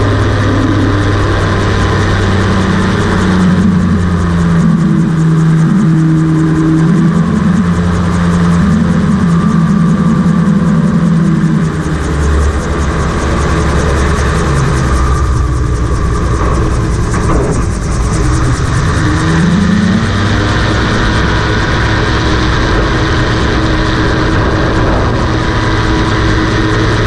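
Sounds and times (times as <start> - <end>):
propeller whirring: 0.0 - 27.0
two-stroke engine running: 0.0 - 27.0.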